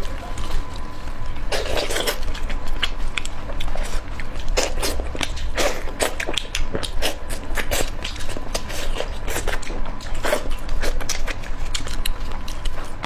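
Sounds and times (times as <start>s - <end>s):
person chewing and biting: 1.3s - 13.0s.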